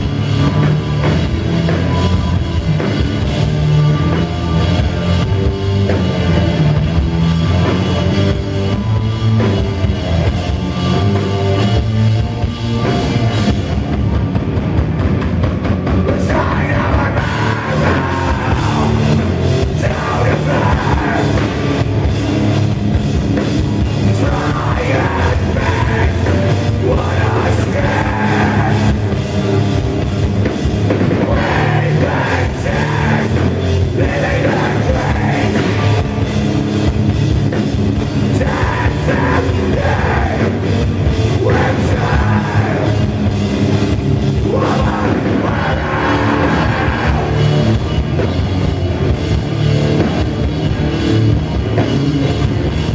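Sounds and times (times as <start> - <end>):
heavy metal band playing live: 0.0 - 52.9.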